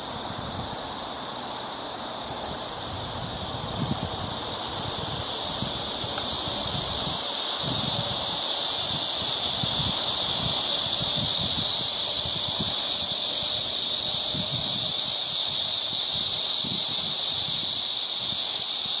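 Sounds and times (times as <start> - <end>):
cicada buzzing drone: 0.0 - 19.0.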